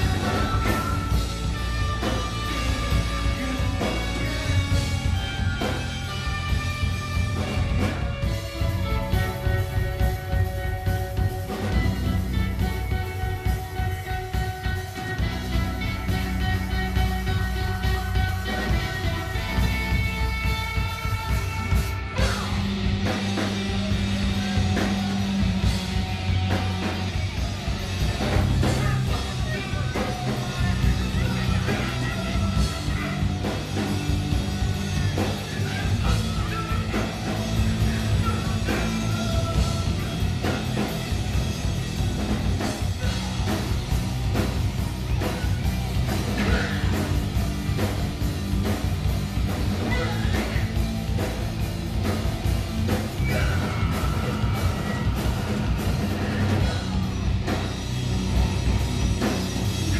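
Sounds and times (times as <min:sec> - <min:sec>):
distorted electric guitars: 0:00.0 - 0:59.9
drum kit beat: 0:00.0 - 0:59.9
live rock band playing: 0:00.0 - 0:59.9.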